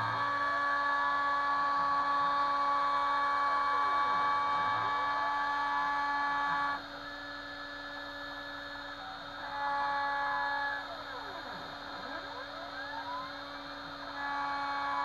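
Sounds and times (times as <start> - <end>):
router spindle high whine: 0.0 - 15.0
stepper motor tones: 0.0 - 15.0.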